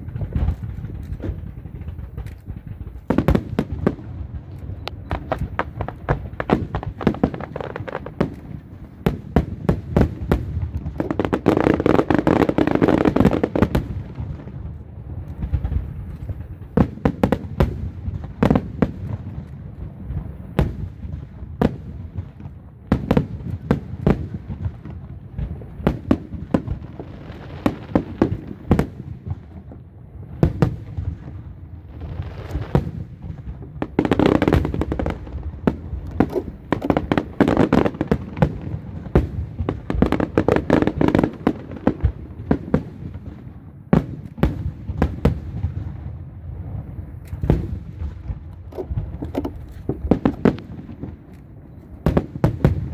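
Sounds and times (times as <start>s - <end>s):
sharp bangs and crackling pops: 0.0s - 52.9s.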